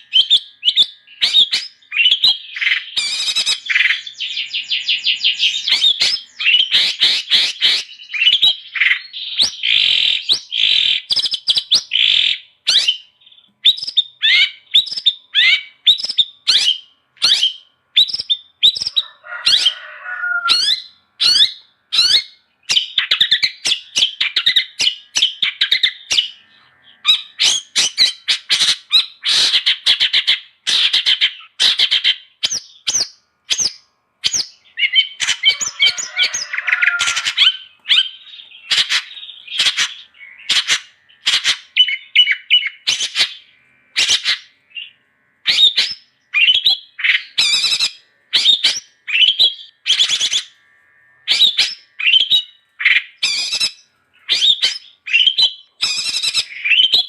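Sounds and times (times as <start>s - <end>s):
shrike singing sharp chirps: 0.0s - 50.6s, 51.3s - 57.0s.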